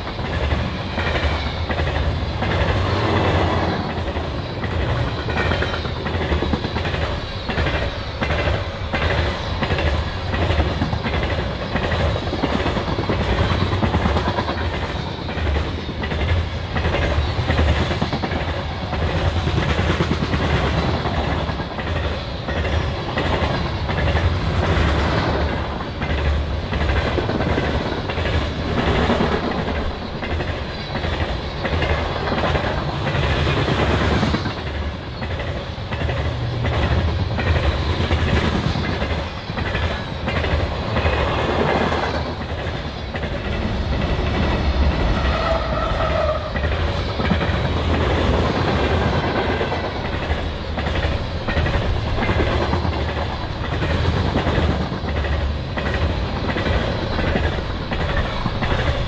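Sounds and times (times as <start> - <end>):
diesel locomotives passing: 0.0 - 59.0
train rumble: 0.0 - 59.0
train wheels clicking over rail joints: 0.0 - 59.0.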